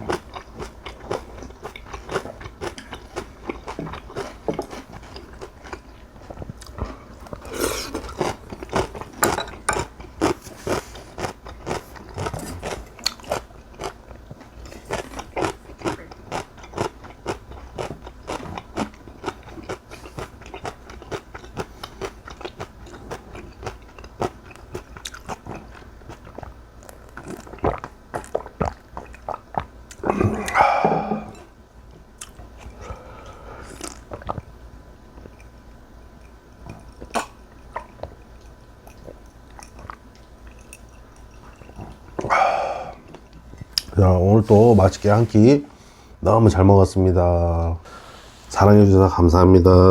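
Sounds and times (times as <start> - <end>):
person chewing and crunching food: 0.0 - 45.3.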